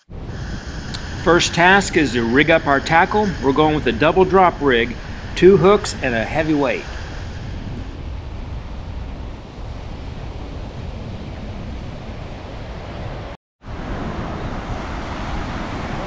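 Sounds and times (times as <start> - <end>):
wind rumbling on microphone: 0.0 - 16.0
surf breaking on beach: 0.4 - 12.4, 13.0 - 16.0.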